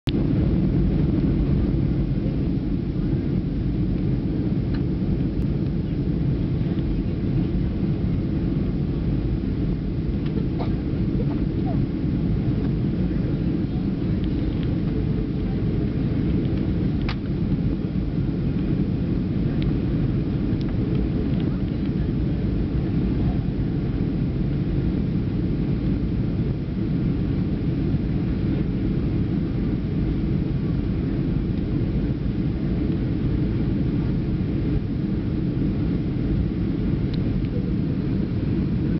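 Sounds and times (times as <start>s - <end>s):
airplane engines rumbling: 0.0s - 38.9s.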